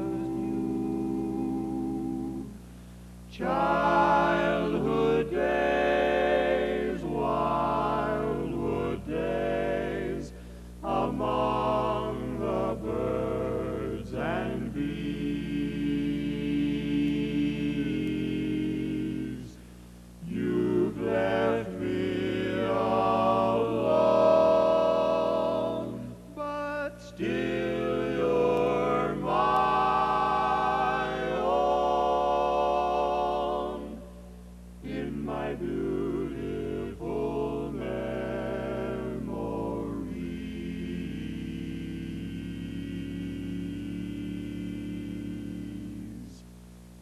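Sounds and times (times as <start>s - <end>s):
voices singing with vibrato: 0.0s - 2.6s, 3.3s - 46.4s.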